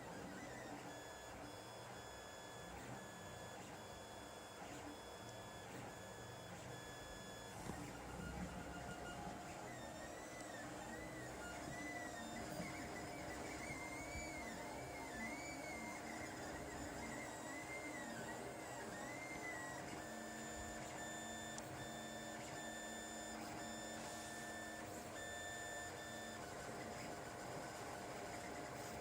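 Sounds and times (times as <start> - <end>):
printer stepper motors whining: 0.0 - 29.0.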